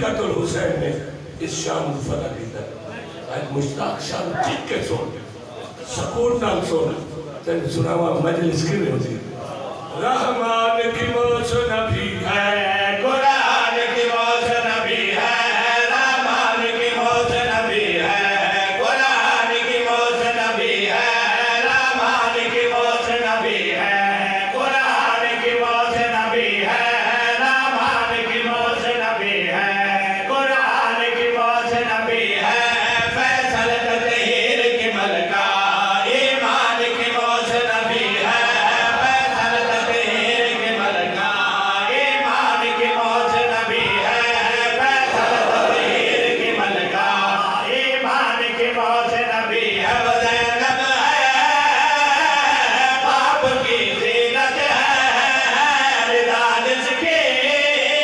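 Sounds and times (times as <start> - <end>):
men chanting a lament: 0.0 - 58.0.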